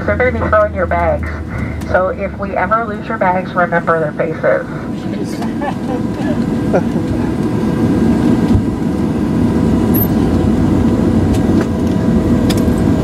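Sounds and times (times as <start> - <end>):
engine and airframe rumble: 0.0 - 13.0.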